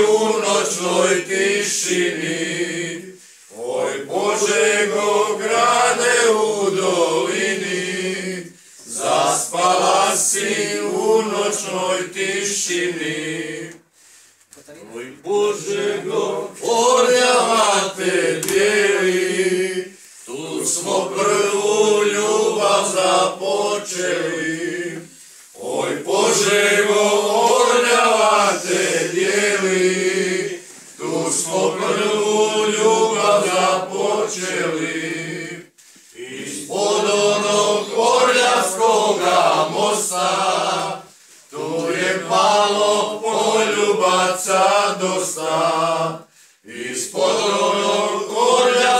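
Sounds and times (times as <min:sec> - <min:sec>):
men singing unaccompanied: 0:00.0 - 0:13.9, 0:15.0 - 0:48.9.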